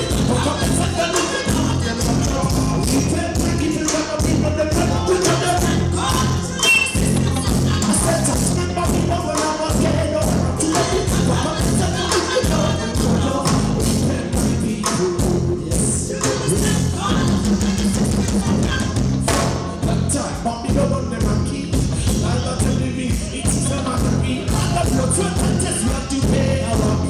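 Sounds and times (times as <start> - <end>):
live reggae band music: 0.0 - 27.0.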